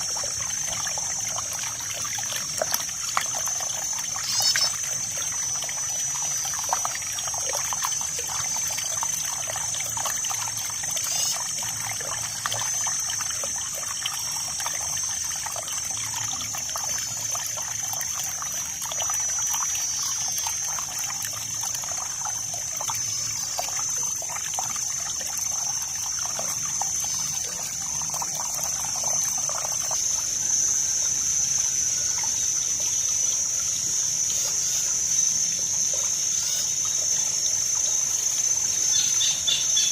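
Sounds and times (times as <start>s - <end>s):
high-pitched buzzing tone: 0.0s - 39.9s
water trickling and splashing: 0.0s - 39.9s.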